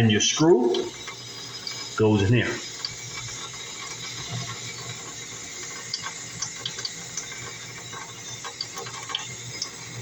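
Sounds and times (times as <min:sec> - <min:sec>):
water running from faucet: 0:00.0 - 0:10.0.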